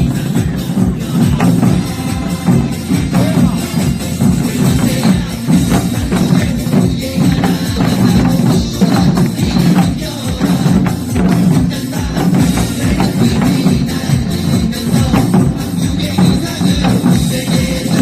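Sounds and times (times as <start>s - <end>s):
drums played along: 0.0s - 18.0s
upbeat dance pop music: 0.0s - 18.0s.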